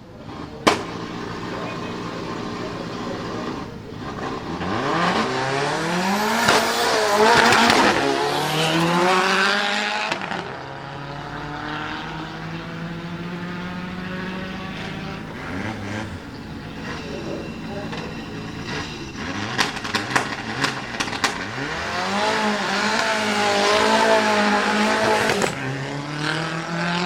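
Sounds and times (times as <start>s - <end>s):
race car accelerating past: 0.0s - 27.0s.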